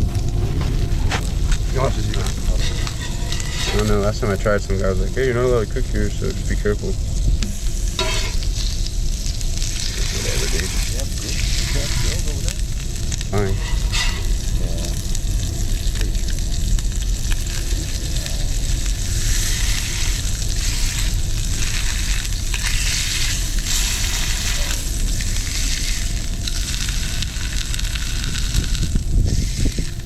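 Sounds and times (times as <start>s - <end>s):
food sizzling in hot oil: 0.0s - 30.0s
low rumble: 0.0s - 30.0s.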